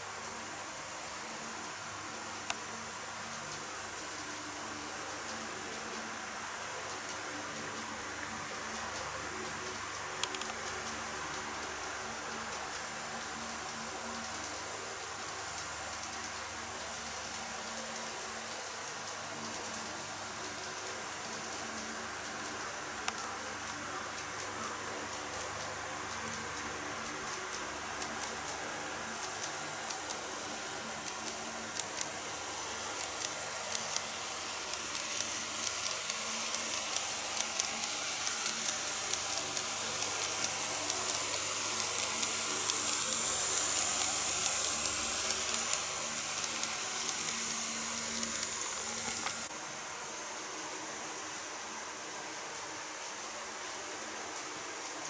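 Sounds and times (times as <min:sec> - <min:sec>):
model train whirring: 0:00.0 - 0:49.6.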